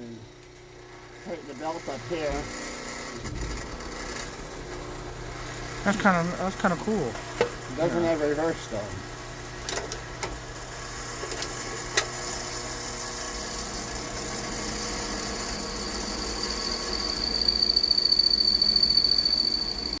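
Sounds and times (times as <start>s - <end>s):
drill press humming: 0.0s - 20.0s.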